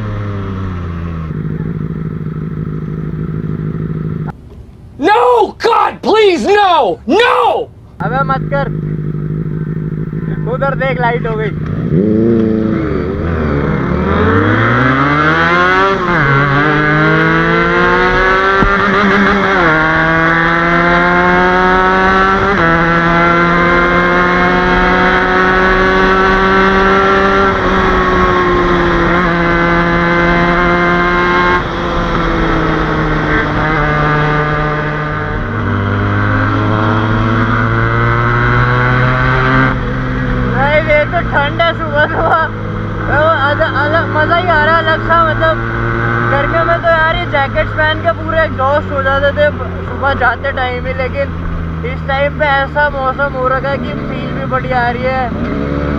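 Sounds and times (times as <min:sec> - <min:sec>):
motorcycle engine accelerating: 0:00.0 - 0:04.4, 0:08.0 - 0:55.9.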